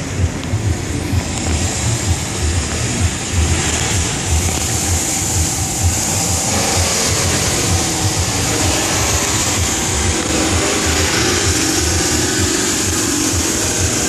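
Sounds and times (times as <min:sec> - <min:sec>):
car engine idling: 0:00.0 - 0:14.0
steady hiss: 0:00.0 - 0:14.0.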